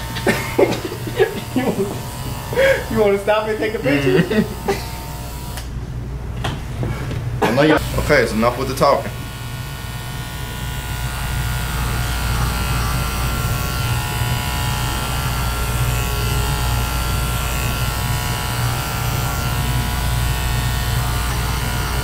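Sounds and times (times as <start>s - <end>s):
electric hair clippers buzzing: 0.0s - 5.8s, 7.8s - 22.0s.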